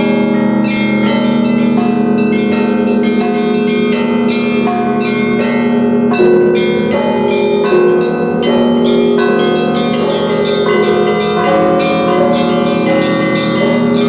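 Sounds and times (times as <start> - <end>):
low bell ringing: 0.0 - 14.0
small church bells ringing: 0.0 - 14.0.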